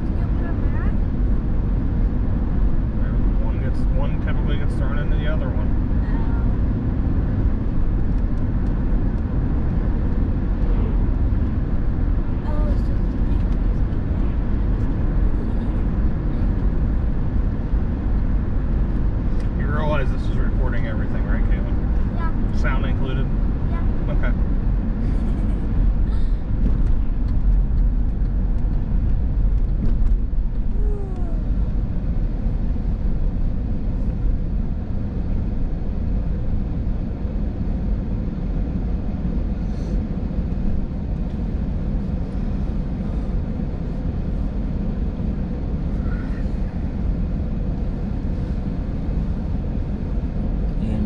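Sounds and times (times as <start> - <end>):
car engine rumble: 0.0 - 51.0
road noise inside car: 0.0 - 51.0.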